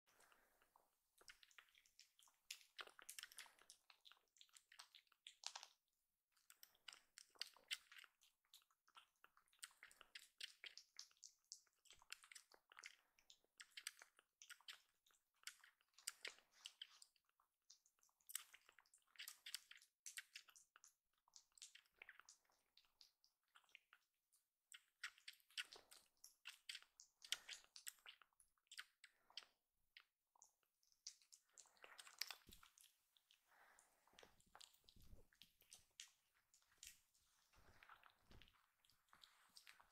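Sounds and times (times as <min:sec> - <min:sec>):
kitten suckling from bottle: 0:00.2 - 0:39.9.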